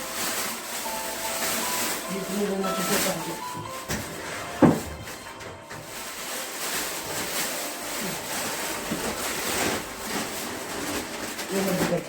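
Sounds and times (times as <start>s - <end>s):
rustling handling noise: 0.0s - 12.0s.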